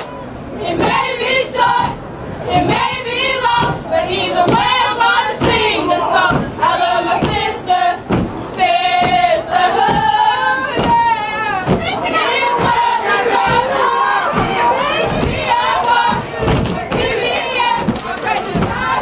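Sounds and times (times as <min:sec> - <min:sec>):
group chanting and singing: 0:00.0 - 0:19.0.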